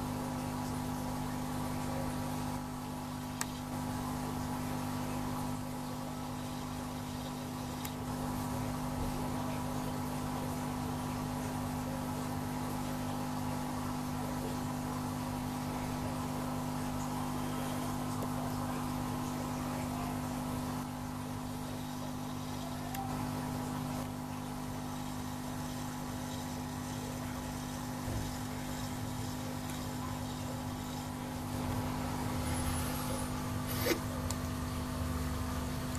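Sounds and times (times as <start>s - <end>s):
aquarium equipment humming: 0.0s - 35.9s.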